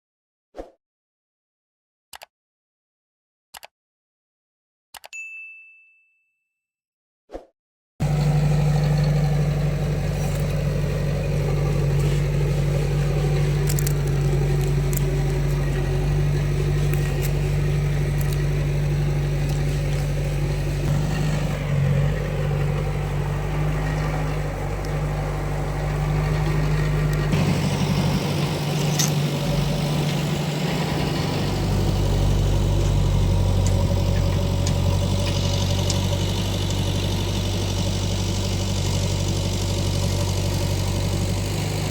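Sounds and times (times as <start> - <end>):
heavy diesel engine running: 8.0 - 41.9.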